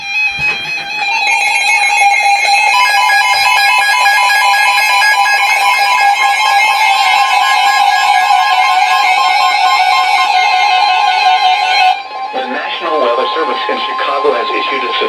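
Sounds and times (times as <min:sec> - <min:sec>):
rapid high beeping: 0:00.0 - 0:15.0
steady electronic alarm tone: 0:00.0 - 0:15.0.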